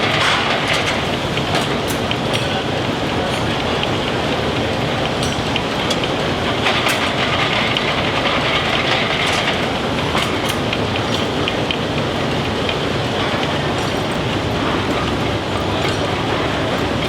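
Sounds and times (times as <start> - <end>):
line-shaft machinery clattering: 0.0 - 17.0.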